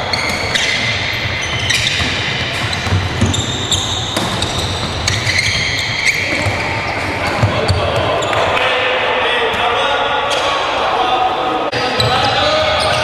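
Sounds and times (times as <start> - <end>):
sports hall din: 0.0 - 13.0.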